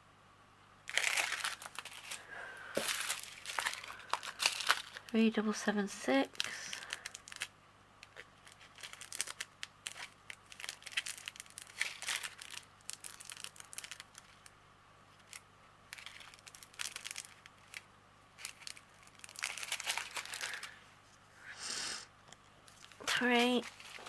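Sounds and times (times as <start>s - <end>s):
plastic bags crinkling: 0.9s - 20.8s, 22.6s - 24.0s.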